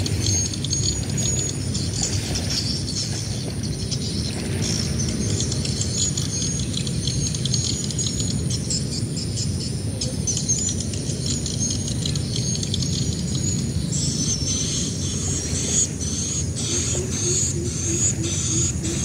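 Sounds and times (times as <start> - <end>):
birds chirping: 0.0 - 19.0
insects chirping: 0.0 - 19.0.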